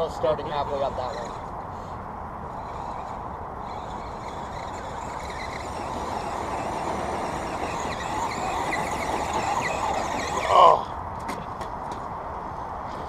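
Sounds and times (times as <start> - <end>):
electric motors whirring: 0.0 - 10.7.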